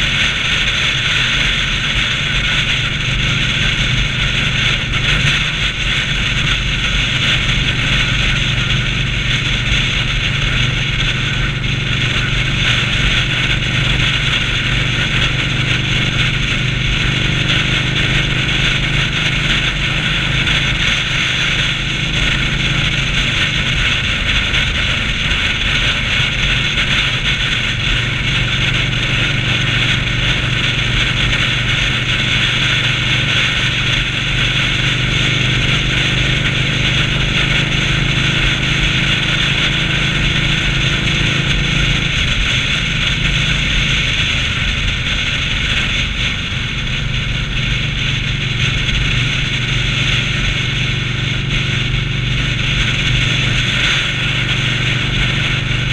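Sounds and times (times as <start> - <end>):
motorcycle engine drone: 0.0 - 55.9
wind rush on microphone: 0.0 - 55.9.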